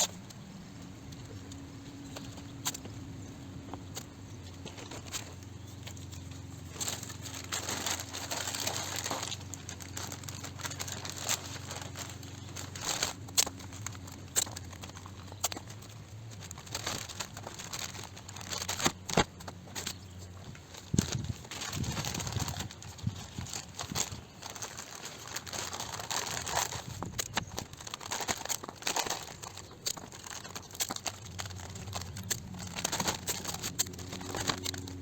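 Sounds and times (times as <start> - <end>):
masking paper crinkling: 0.0 - 35.0.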